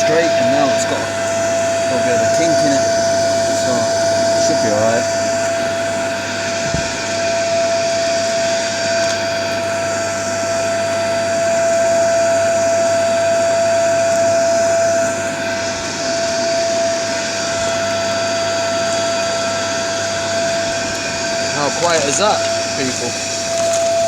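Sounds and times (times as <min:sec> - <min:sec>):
muffled pump whine and hum: 0:00.0 - 0:24.0.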